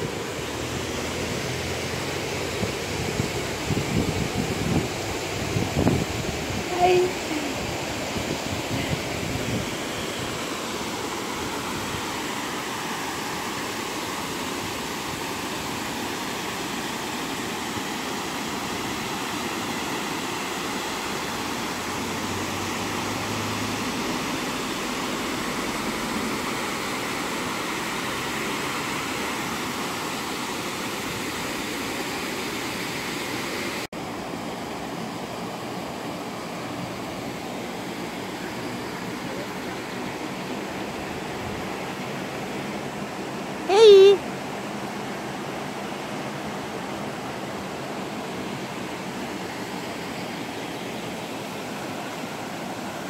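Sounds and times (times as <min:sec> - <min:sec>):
river water rushing over weir: 0:00.0 - 0:53.0.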